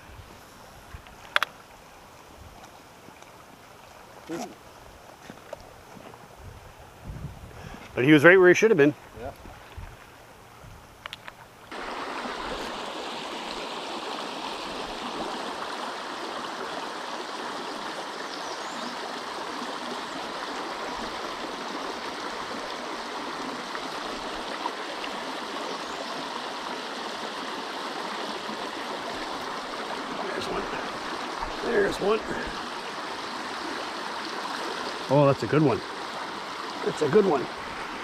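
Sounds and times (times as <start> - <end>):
creek water rushing over ledge: 0.0 - 7.1, 11.4 - 38.0.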